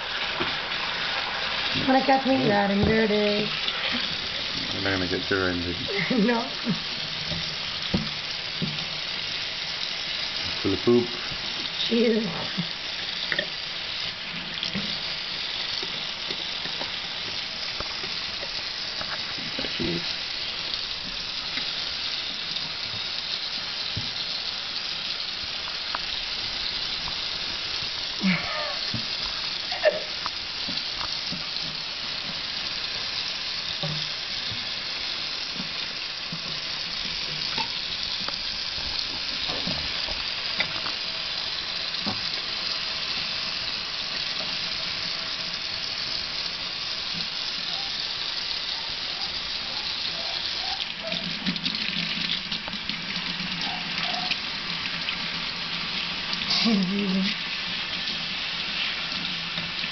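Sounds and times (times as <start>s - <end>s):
faucet water running into sink: 0.0s - 59.9s.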